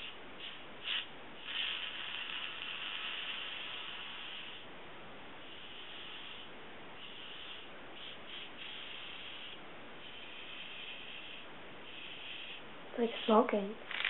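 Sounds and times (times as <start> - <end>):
aerosol can spraying: 0.0 - 4.6, 5.4 - 14.0.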